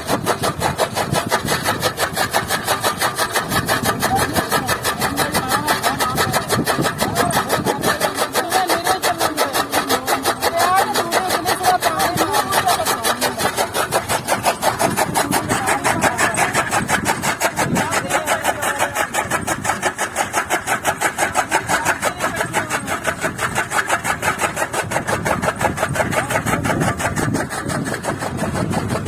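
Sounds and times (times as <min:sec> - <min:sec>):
rhythmic chopping of fodder: 0:00.0 - 0:29.0
tractor diesel engine: 0:00.0 - 0:29.0.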